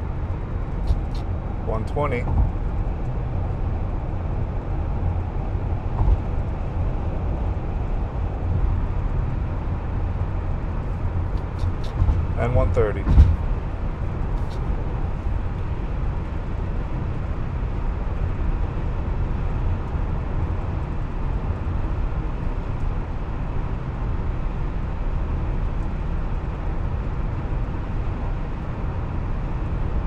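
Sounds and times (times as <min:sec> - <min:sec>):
car cabin road and wind noise: 0:00.0 - 0:30.0.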